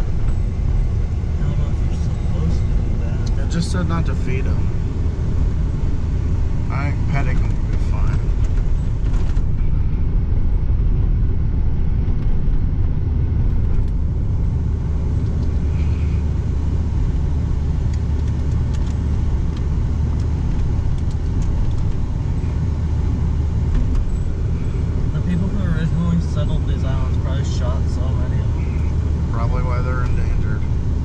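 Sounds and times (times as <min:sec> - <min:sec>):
truck engine rumble: 0:00.0 - 0:31.0.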